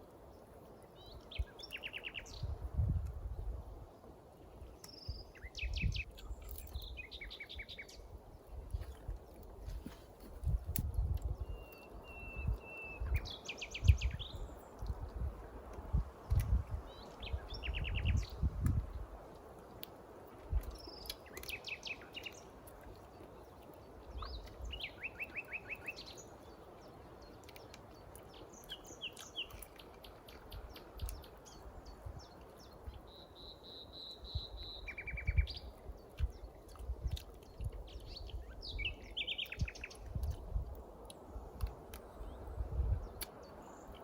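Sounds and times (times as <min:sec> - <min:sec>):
songbirds trilling and chirping: 0:00.0 - 0:44.0.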